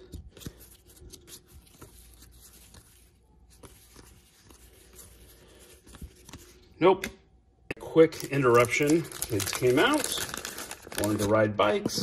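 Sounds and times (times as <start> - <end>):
cards flipping and rustling: 0.0 - 6.8, 8.1 - 11.4.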